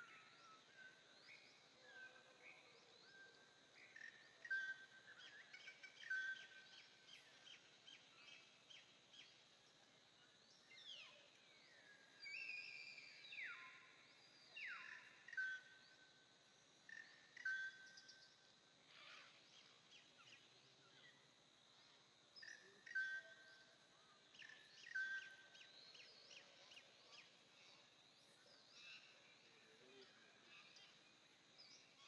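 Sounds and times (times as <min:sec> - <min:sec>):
faint birdsong: 0:00.0 - 0:32.0.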